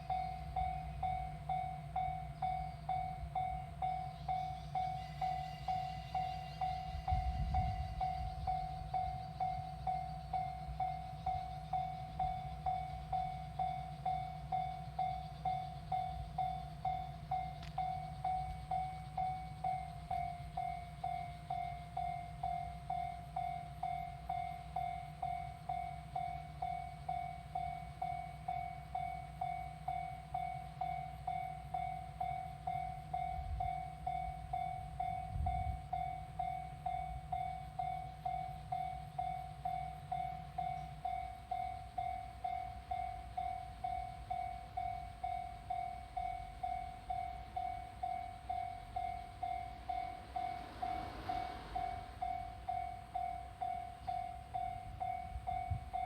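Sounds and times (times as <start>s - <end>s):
level crossing warning bell: 0.0s - 56.0s.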